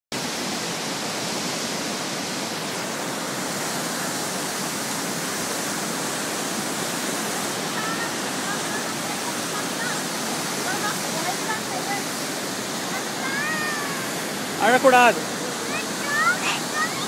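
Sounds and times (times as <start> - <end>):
river rushing through rapids: 0.2 - 17.0.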